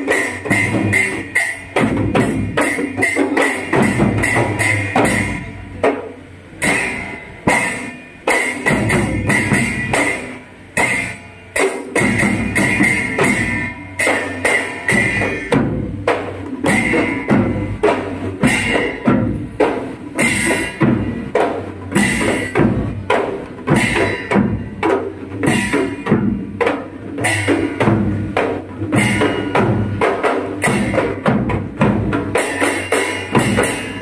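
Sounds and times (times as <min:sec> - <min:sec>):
drums beaten in fast rhythm: 0:00.0 - 0:34.0.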